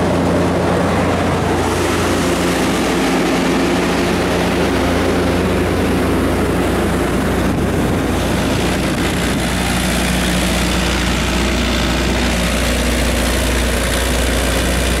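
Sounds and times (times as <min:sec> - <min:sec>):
diesel generator running: 0:00.0 - 0:15.0.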